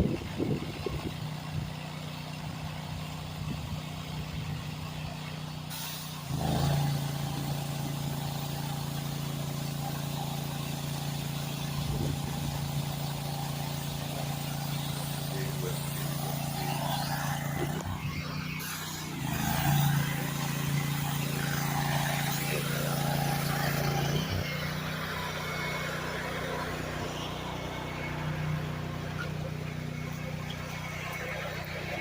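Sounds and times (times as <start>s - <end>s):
steady engine hum: 0.0s - 32.0s.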